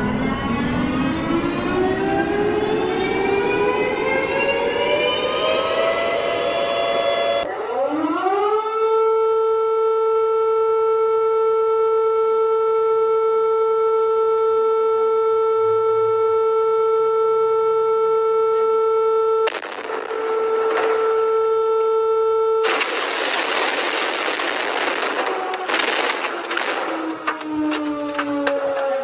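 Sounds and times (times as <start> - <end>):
siren winding up and wailing: 0.0 - 9.3, 12.0 - 29.0.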